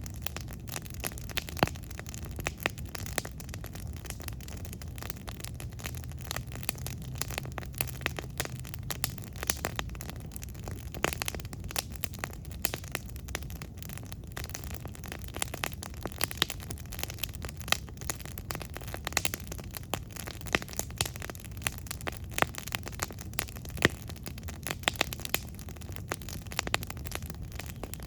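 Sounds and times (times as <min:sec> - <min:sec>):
campfire crackling and popping: 0:00.0 - 0:28.0
low rush of flame: 0:00.0 - 0:28.0.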